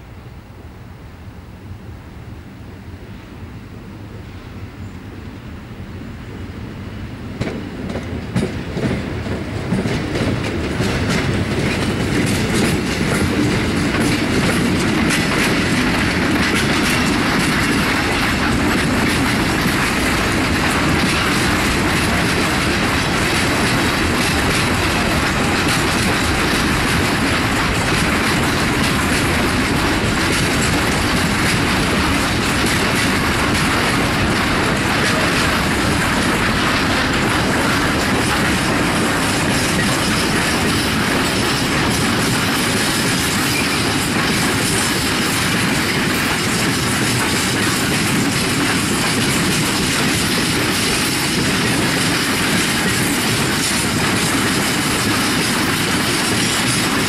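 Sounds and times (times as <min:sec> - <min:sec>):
train wheels clattering over rail joints: 0:07.4 - 0:57.0.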